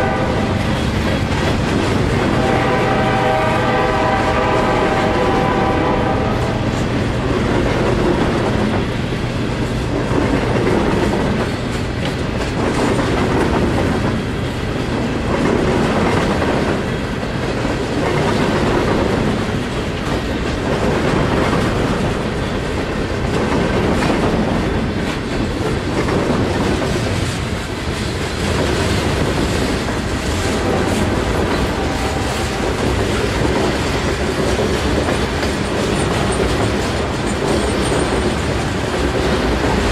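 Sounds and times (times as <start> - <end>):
wheels clicking over rail joints: 0.0 - 5.2, 6.0 - 39.9
freight train cars rolling past: 0.0 - 39.9.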